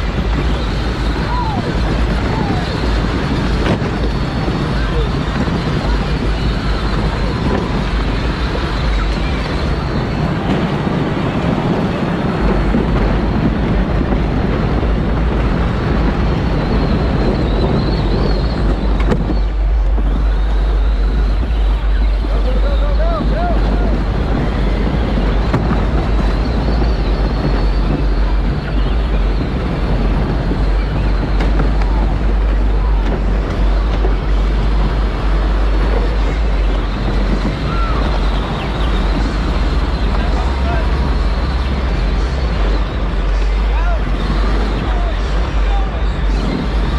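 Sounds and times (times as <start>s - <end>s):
toy car drive rumbling: 0.0s - 46.9s.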